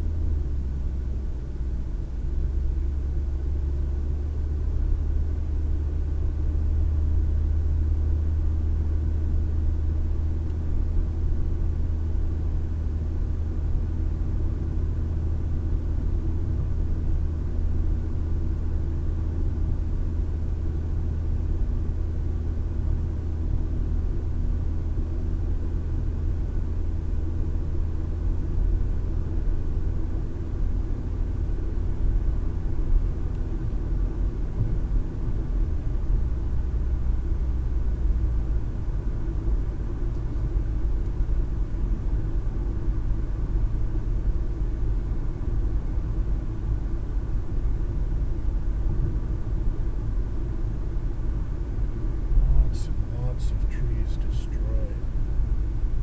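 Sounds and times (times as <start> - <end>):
car engine and tyre road noise: 0.0 - 56.0.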